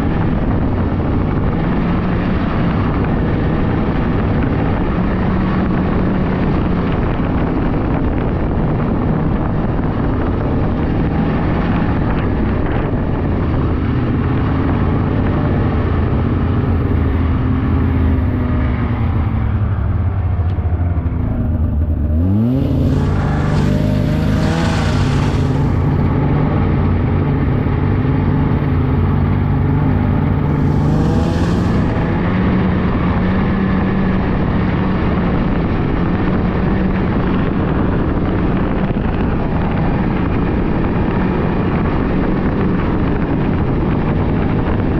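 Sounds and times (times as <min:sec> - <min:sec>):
snowmobile engine running: 0:00.0 - 0:44.9.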